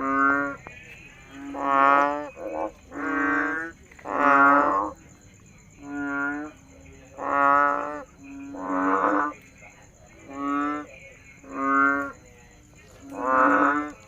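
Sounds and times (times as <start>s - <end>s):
frog deep moo-like calls: 0.0s - 5.0s, 5.8s - 12.3s, 12.9s - 14.0s.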